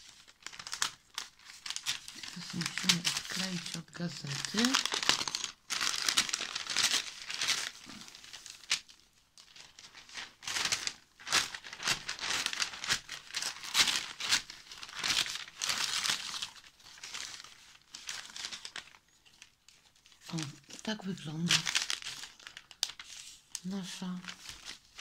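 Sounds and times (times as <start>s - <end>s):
newspaper crinkling and tearing: 0.0s - 25.0s.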